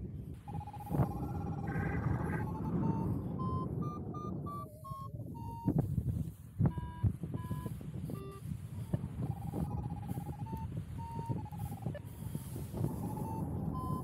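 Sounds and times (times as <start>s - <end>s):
variometer beeping: 0.0s - 14.0s
wind buffeting microphone: 0.0s - 14.0s.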